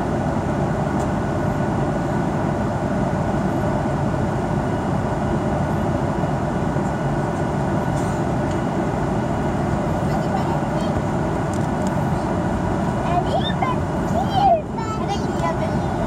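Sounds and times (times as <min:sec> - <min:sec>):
airplane cabin rumble and hiss: 0:00.0 - 0:16.0.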